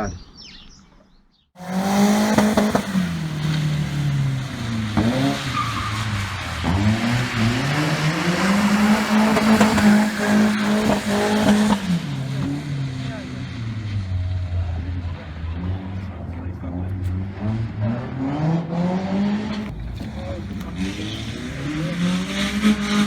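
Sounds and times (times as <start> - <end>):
car engine revving: 1.6 - 23.0.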